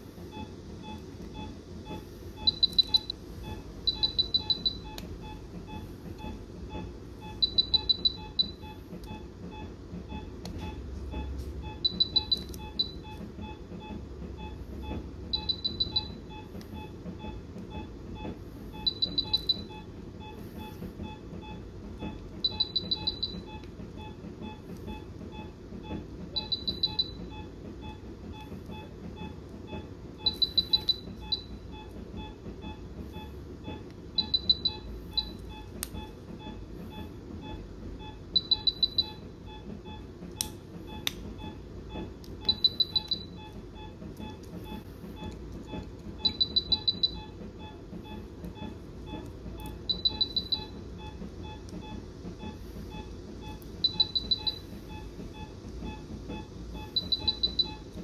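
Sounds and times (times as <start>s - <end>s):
low equipment hum: 0.0s - 58.0s
rapid high monitor beeps: 0.3s - 57.9s.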